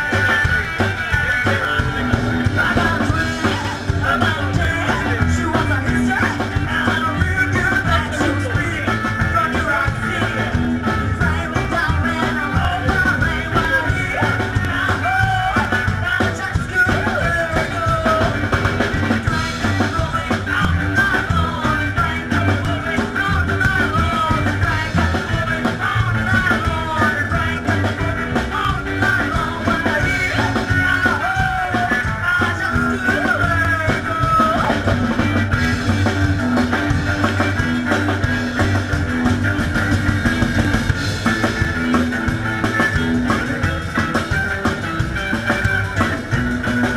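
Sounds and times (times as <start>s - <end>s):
drums: 0.0s - 46.9s
guitar: 0.0s - 46.9s
upright bass: 0.0s - 46.9s.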